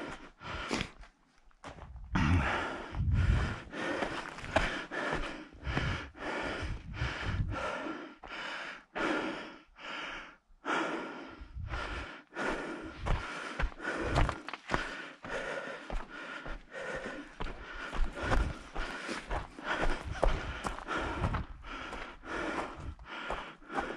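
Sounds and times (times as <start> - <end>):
person breathing hard: 0.0 - 1.0, 2.0 - 23.9.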